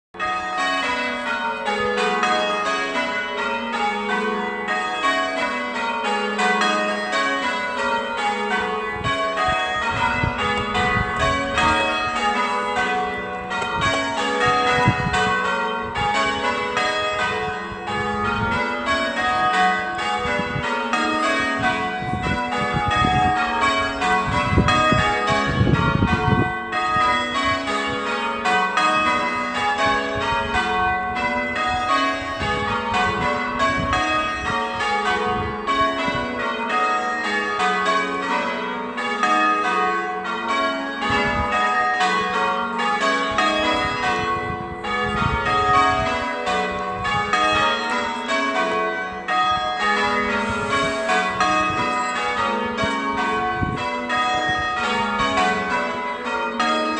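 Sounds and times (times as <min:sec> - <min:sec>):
church bells change-ringing: 0:00.2 - 0:56.9.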